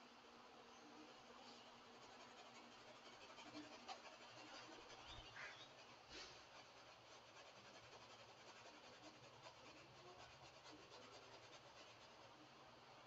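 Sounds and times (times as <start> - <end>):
low steady hum: 0.0 - 13.0
paintbrush scratching on canvas: 1.5 - 12.4.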